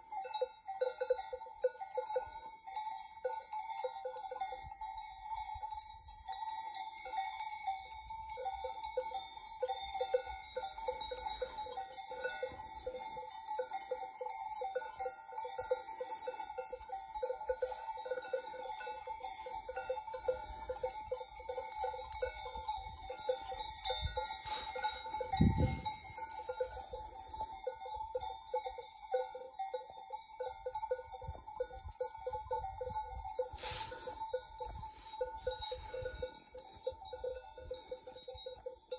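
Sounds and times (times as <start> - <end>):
sheep bells clanking: 0.0 - 38.9.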